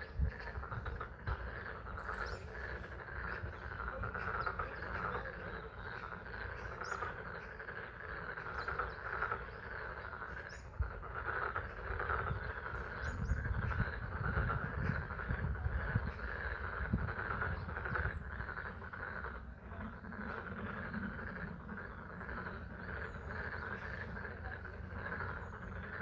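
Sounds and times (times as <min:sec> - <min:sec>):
frogs chorus: 0:00.0 - 0:26.0.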